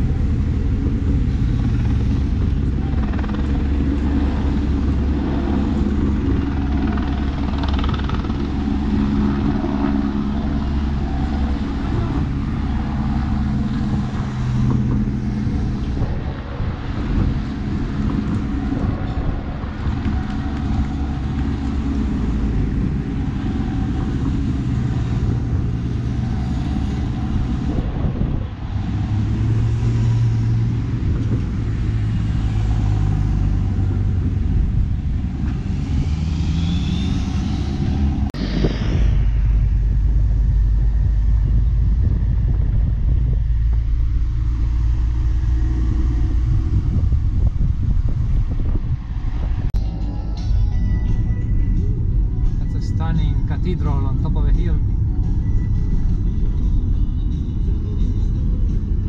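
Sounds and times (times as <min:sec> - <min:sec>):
cars and motorcycles driving past: 0:00.0 - 0:59.0.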